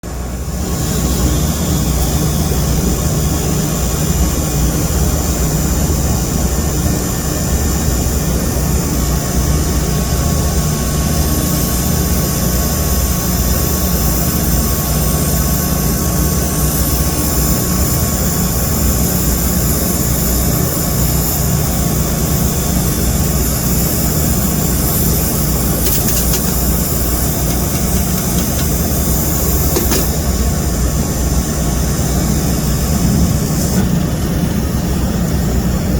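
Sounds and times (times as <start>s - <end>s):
machine drone with low rumble: 0.0s - 35.9s.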